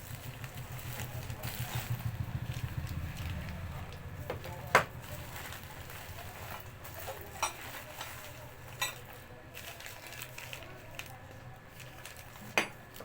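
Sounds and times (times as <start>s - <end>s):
faint crackle: 0.0s - 13.0s.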